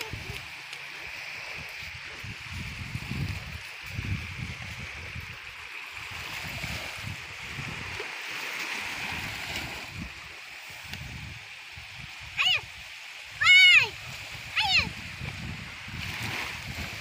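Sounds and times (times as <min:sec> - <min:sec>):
small waves washing onto sand: 0:00.0 - 0:17.0
wind rumbling on microphone: 0:00.0 - 0:17.0.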